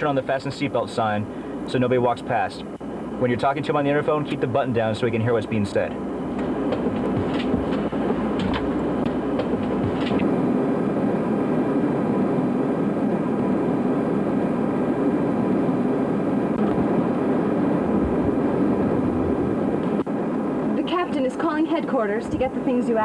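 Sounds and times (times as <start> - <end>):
jet airliner cabin drone: 0.0 - 23.0.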